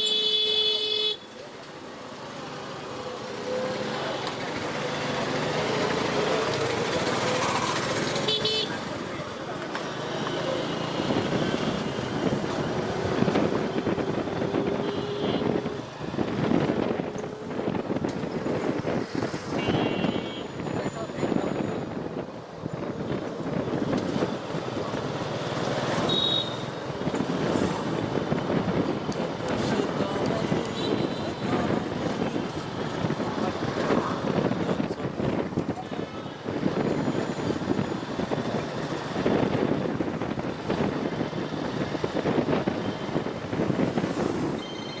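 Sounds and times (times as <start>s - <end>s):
passing traffic: 0.0s - 45.0s
road and wind noise: 0.0s - 45.0s.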